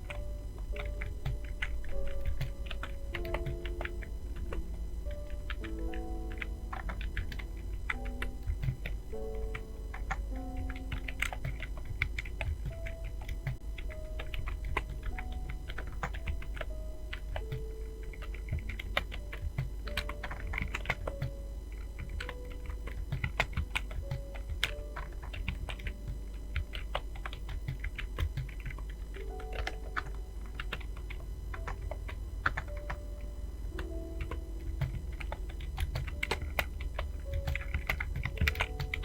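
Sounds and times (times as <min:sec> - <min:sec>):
faint melody of held notes: 0:00.0 - 0:39.0
typing on computer keyboard: 0:00.0 - 0:39.0.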